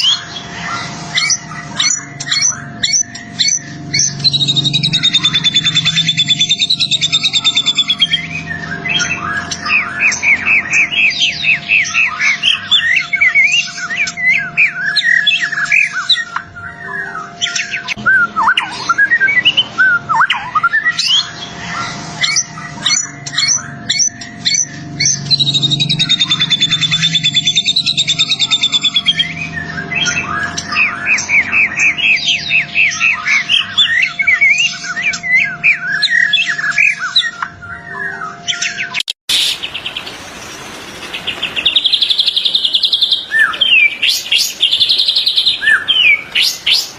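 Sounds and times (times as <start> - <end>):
faint hum: 0.0 - 38.2, 39.4 - 46.9
songbird singing: 0.0 - 46.9.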